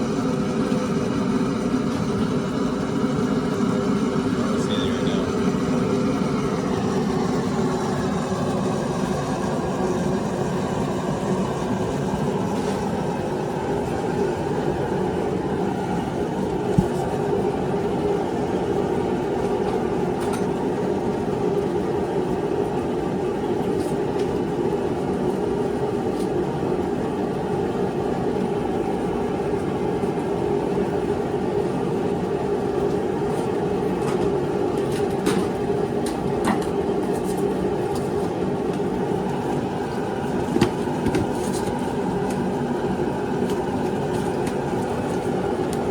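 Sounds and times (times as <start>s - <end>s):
steady mechanical drone: 0.0s - 45.9s.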